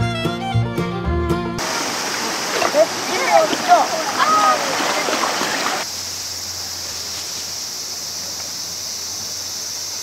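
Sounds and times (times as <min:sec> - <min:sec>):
high-pitched hiss: 0:01.6 - 0:10.0
rushing water: 0:01.6 - 0:10.0.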